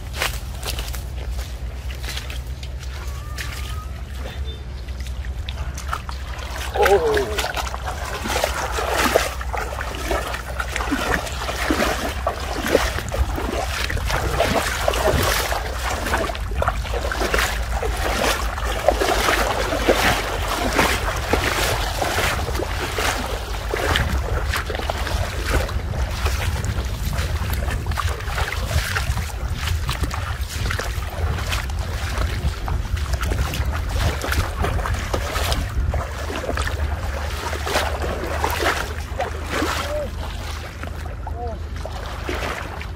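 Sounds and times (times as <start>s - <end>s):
feet splashing through water: 0.0s - 42.9s
wind rumble on microphone: 0.0s - 42.9s.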